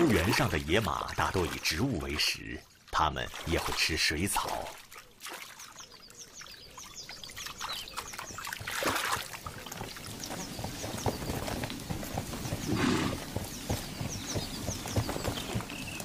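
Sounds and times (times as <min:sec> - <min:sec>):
water trickling and pouring: 0:00.0 - 0:13.4
small birds chirping: 0:00.0 - 0:16.0.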